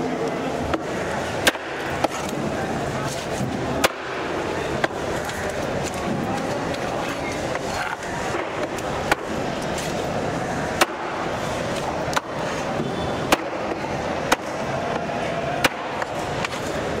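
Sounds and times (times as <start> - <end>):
steady background din: 0.0 - 17.0.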